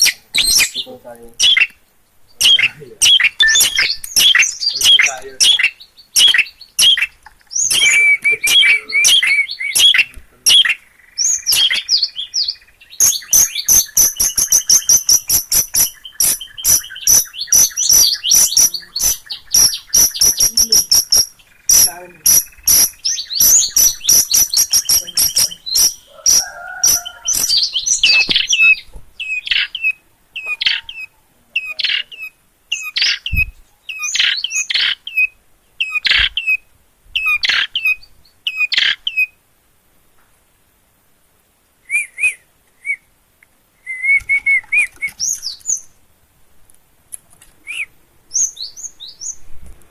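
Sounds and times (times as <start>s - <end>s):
bird chattering song: 0.0s - 39.4s, 43.9s - 46.0s, 47.6s - 49.4s.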